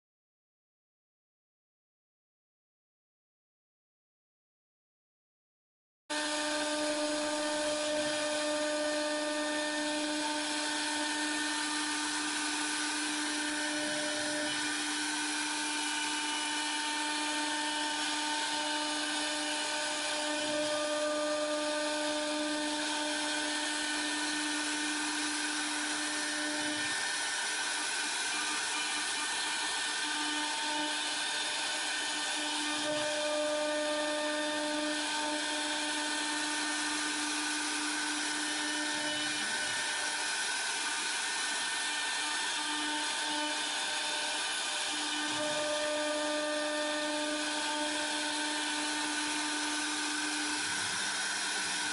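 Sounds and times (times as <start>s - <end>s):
router spindle whining: 6.1s - 51.9s.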